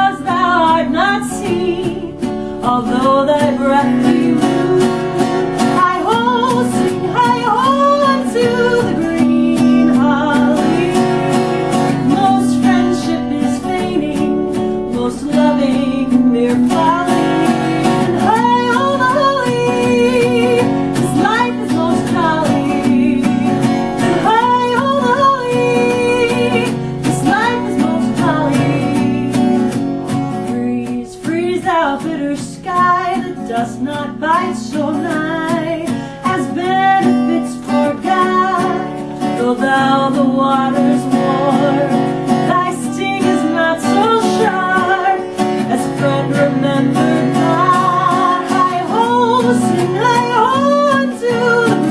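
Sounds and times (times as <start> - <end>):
plucked acoustic guitar: 0.0 - 51.9
woman singing: 0.0 - 51.9.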